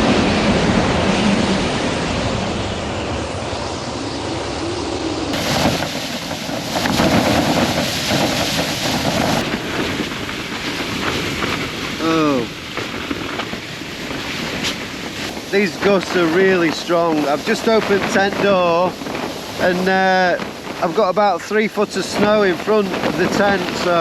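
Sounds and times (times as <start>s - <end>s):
blizzard wind gusting: 0.0s - 24.0s.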